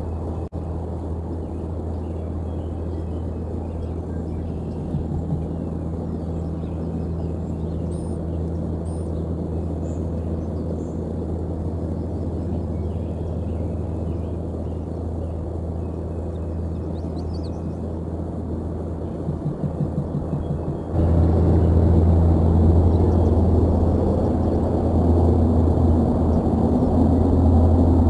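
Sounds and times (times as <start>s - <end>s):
low hum with even tones: 0.0s - 28.0s.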